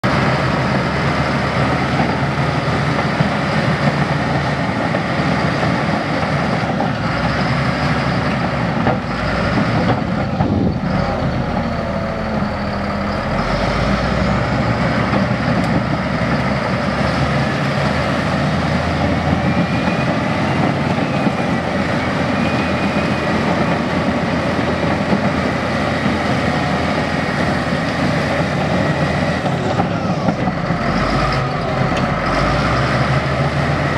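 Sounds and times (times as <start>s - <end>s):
heavy machinery engine running: 0.1s - 33.9s.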